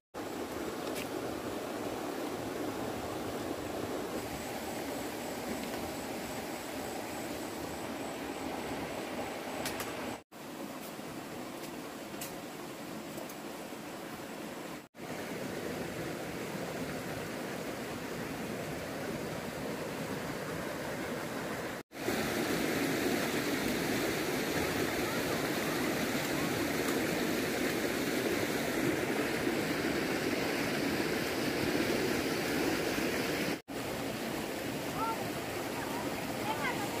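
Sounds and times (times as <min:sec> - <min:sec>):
flowing water rushing: 0:00.2 - 0:37.0.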